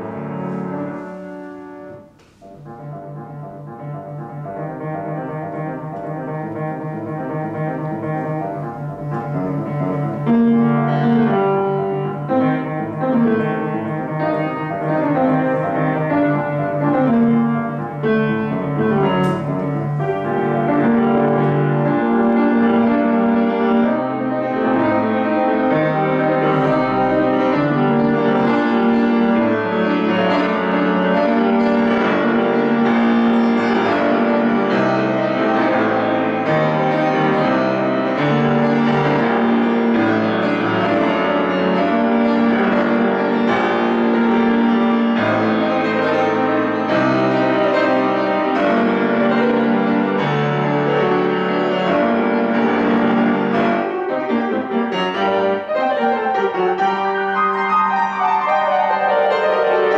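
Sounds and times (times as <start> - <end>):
solo piano improvisation: 0.0 - 59.9.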